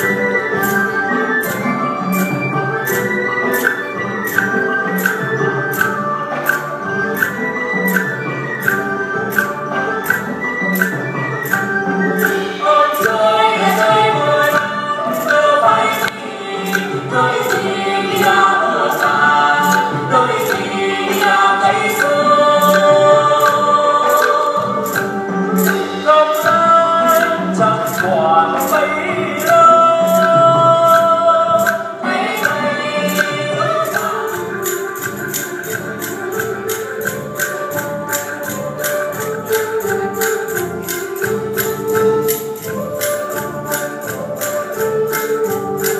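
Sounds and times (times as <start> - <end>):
clicking percussion beat: 0.0 - 45.9
traditional instruments playing: 0.0 - 45.9
voices singing: 0.0 - 45.9.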